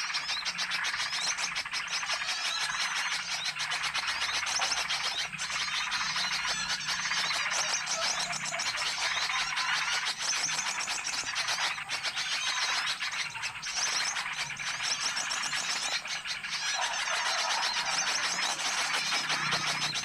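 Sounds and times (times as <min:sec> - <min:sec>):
chorus of small birds chirping: 0:00.0 - 0:20.0.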